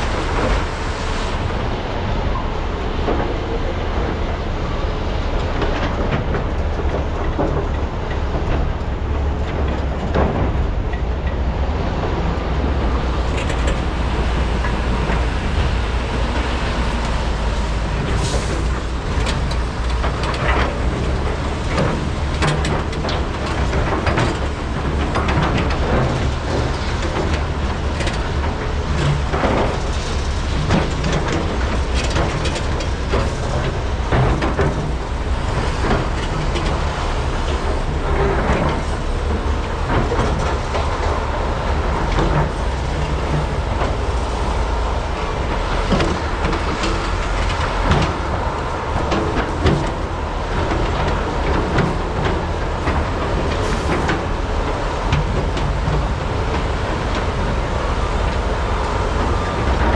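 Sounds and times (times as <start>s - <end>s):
excavator diesel engines rumbling: 0.0s - 59.9s.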